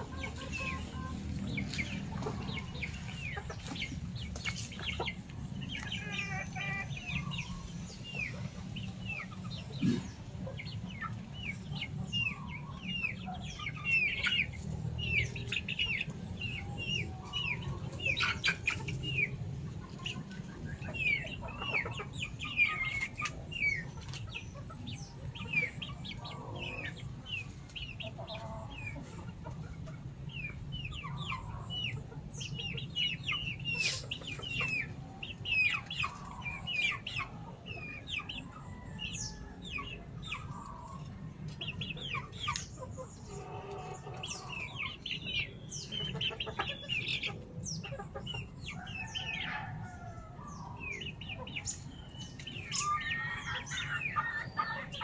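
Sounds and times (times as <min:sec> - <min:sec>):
chickens clucking: 0:00.0 - 0:55.0
high chirps and peeps: 0:00.0 - 0:55.0.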